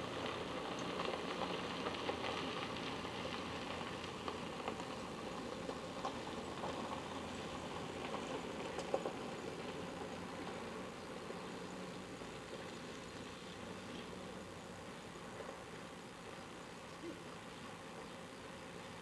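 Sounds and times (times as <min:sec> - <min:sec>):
constant hiss: 0:00.0 - 0:19.0.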